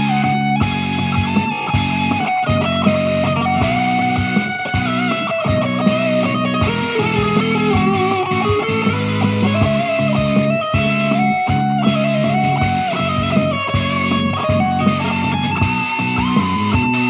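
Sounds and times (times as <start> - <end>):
backing track with steady beat: 0.0 - 17.0
guitar lead melody: 0.0 - 17.0.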